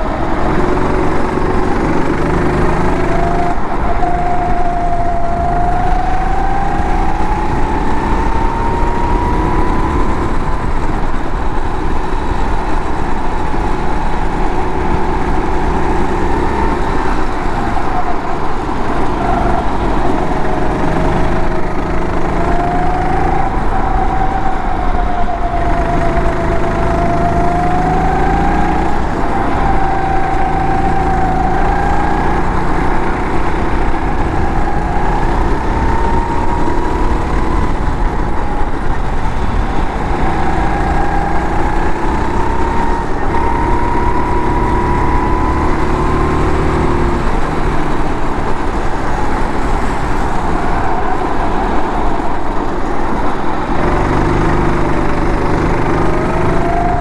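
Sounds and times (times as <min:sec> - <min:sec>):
go-kart engine: 0:00.0 - 0:57.0.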